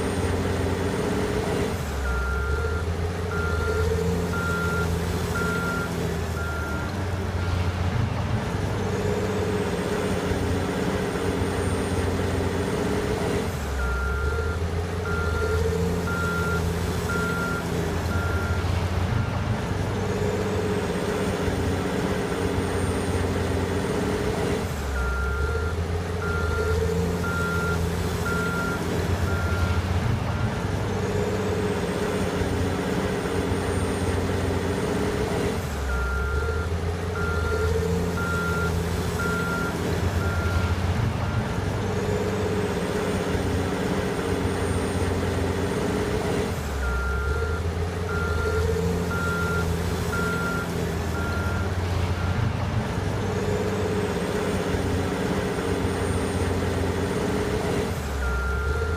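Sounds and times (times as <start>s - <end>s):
diesel engine working under load: 0.0s - 58.9s.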